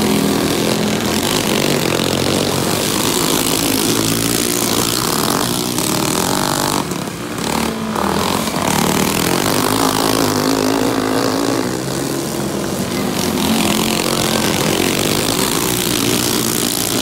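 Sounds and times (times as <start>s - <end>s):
go-kart engines racing: 0.0s - 17.0s.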